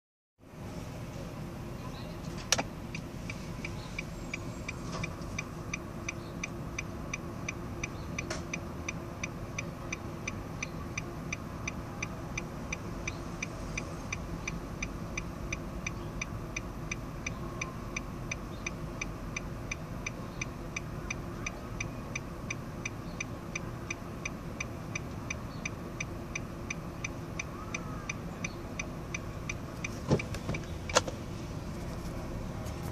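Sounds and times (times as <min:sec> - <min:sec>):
car engine idling: 0:00.5 - 0:32.9
turn-signal flasher ticking: 0:02.5 - 0:31.2
turn-signal stalk clicks: 0:02.5 - 0:31.2.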